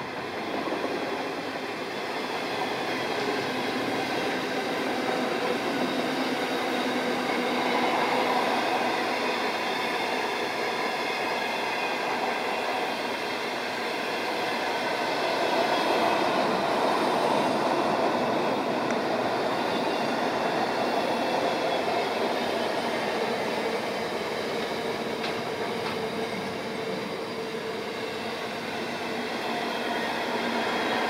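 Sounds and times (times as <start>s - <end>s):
steel wheels running on rails: 0.0s - 31.0s.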